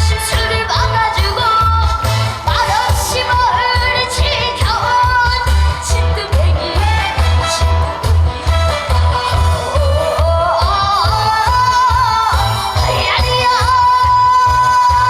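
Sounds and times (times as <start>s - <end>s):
backing track with pulsing bass: 0.0s - 15.0s.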